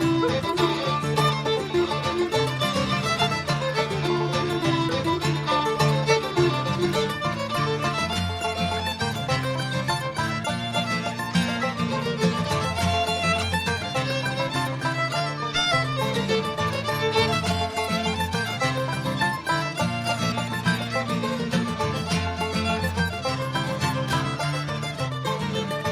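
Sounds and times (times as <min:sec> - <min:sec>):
fiddle melody: 0:00.0 - 0:25.9
string band accompaniment: 0:00.0 - 0:25.9.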